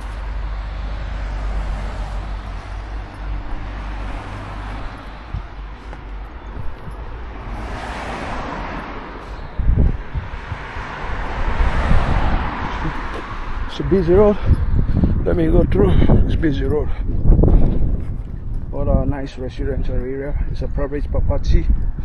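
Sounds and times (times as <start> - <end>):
road traffic passing: 0.0 - 22.0
wind rumble on microphone: 0.0 - 22.0.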